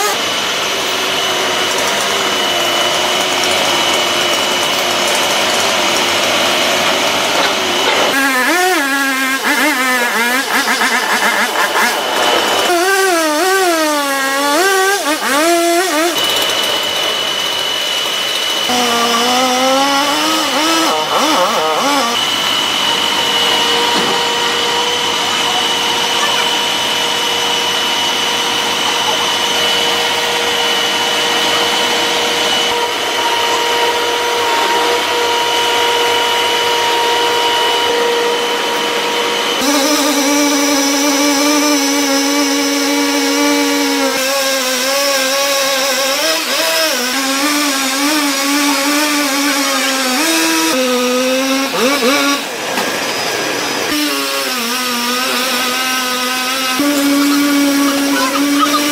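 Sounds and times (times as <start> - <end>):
tree-cutting machinery engine: 0.0 - 58.9.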